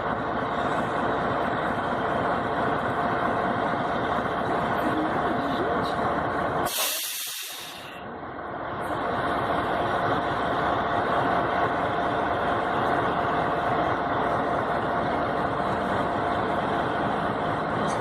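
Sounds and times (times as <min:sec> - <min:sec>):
passenger train rolling past: 0:00.0 - 0:18.0.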